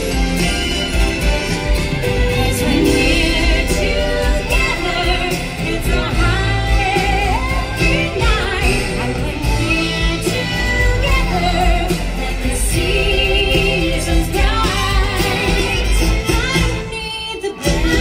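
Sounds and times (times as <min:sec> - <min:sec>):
show music with singing: 0:00.0 - 0:18.0.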